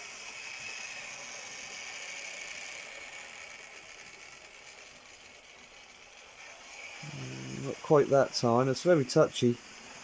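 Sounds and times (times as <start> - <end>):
model train mechanical whir: 0.0 - 10.0.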